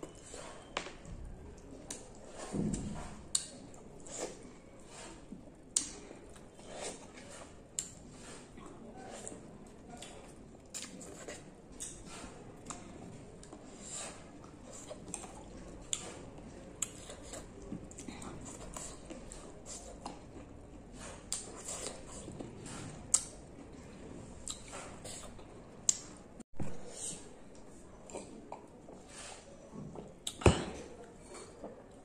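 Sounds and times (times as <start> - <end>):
wet squishy chewing of grapes: 0.0 - 32.0.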